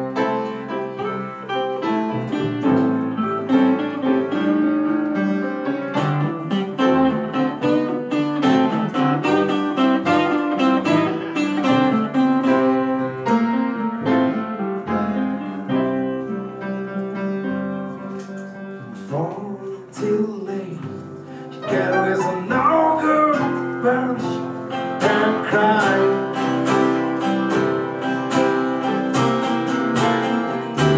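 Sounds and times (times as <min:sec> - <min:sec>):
blues band playing: 0:00.0 - 0:30.9
piano: 0:00.0 - 0:30.9.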